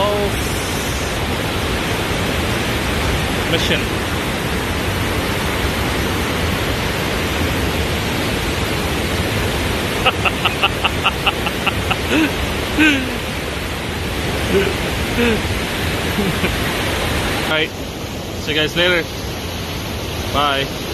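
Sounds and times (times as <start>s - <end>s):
waterfall roaring: 0.0s - 20.9s.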